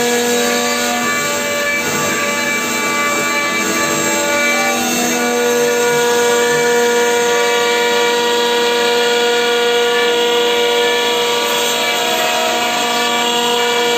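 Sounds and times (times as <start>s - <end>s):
bit cutting through board: 0.0s - 13.9s
router spindle whining: 0.0s - 13.9s.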